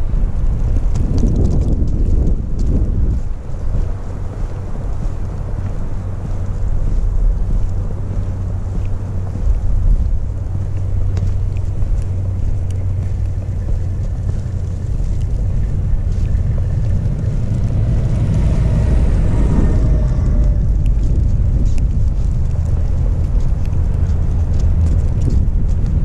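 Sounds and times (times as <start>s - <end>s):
van engine and tyres passing: 0.0s - 26.0s
wind buffeting microphone: 0.0s - 26.0s.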